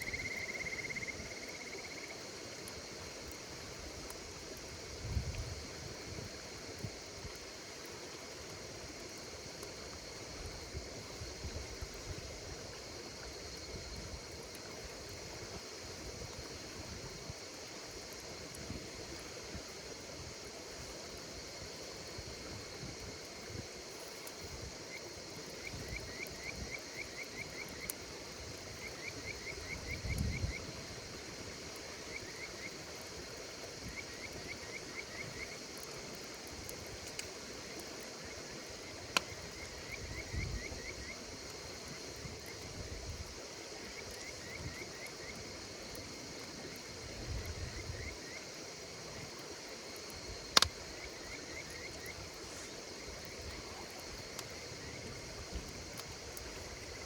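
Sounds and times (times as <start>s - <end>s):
insects chirping in quick trains: 0.0s - 3.2s, 9.2s - 57.0s
campfire popping: 0.0s - 57.0s
high insect chorus: 0.0s - 57.0s.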